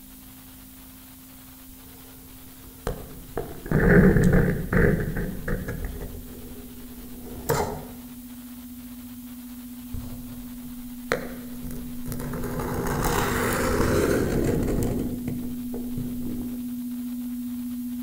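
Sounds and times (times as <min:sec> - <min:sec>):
steady low pure tone: 0:00.0 - 0:18.0.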